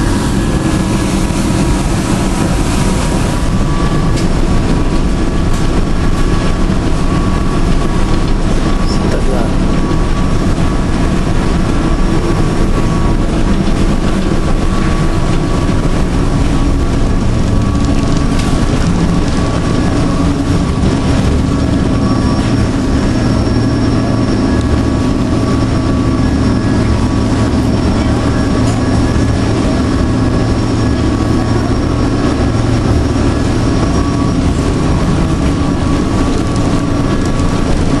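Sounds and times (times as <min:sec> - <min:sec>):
ferry engines humming: 0:00.0 - 0:38.0.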